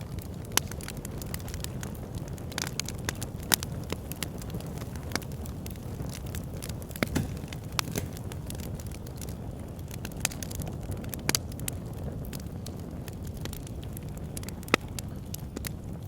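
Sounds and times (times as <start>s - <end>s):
low rumble of flames: 0.0s - 16.0s
fire pops and snaps: 2.6s - 15.8s.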